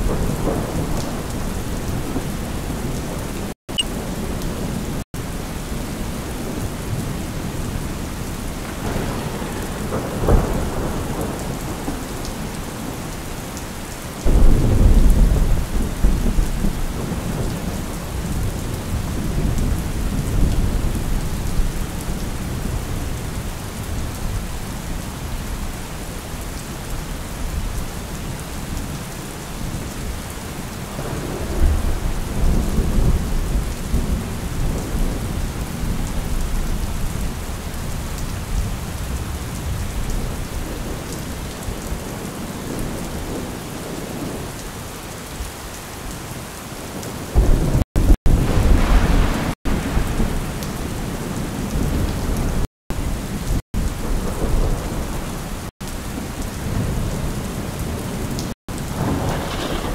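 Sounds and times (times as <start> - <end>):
thunder clap and rumble: 0.0 - 5.0, 6.0 - 13.3, 14.2 - 25.0, 30.9 - 44.6, 47.0 - 59.9
steady rain: 0.0 - 59.9.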